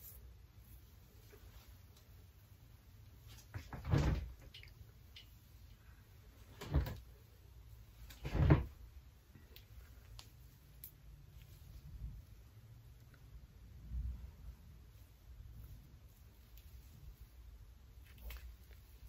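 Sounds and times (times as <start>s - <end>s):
hair rustling: 0.0s - 13.4s, 14.2s - 19.0s.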